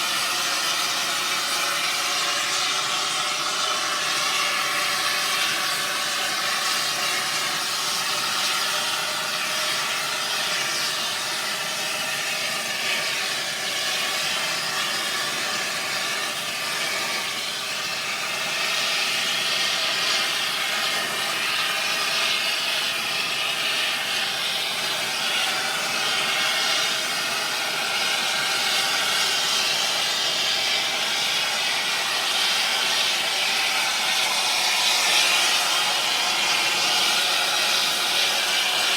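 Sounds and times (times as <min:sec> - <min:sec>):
air torch flame hissing: 0:00.0 - 0:38.9.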